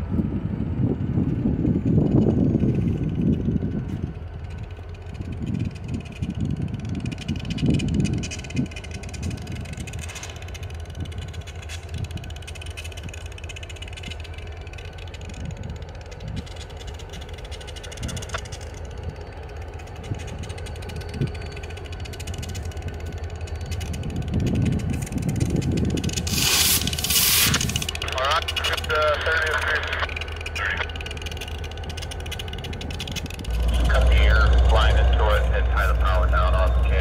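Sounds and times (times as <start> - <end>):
locomotive rumble and whine: 0.0 - 37.0.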